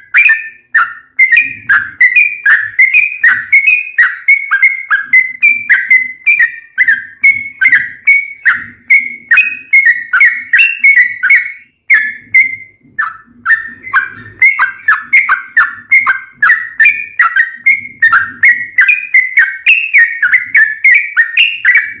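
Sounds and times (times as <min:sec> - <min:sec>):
bird singing fast chirping notes: 0:00.0 - 0:22.0.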